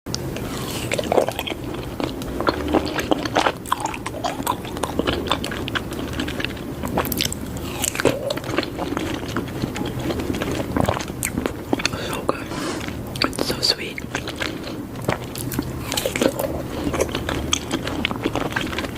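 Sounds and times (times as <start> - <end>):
chewing and biting fruit: 0.1 - 18.9.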